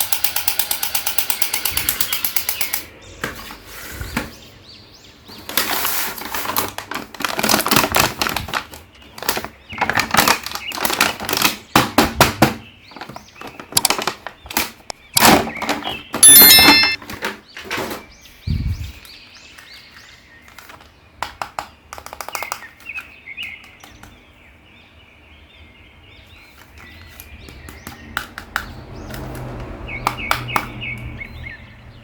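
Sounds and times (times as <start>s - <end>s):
small birds chirping: 0.3s - 32.0s.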